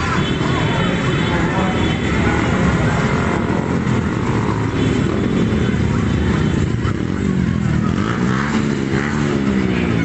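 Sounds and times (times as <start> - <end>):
motorcycle and scooter engines passing: 0.0 - 10.0.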